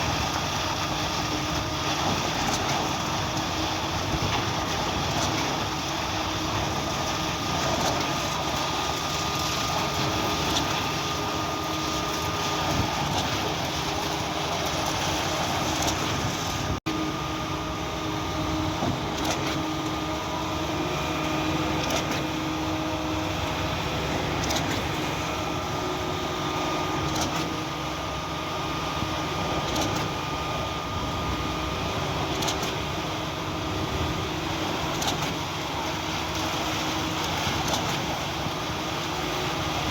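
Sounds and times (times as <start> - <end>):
concrete pump engine drone: 0.0 - 39.9.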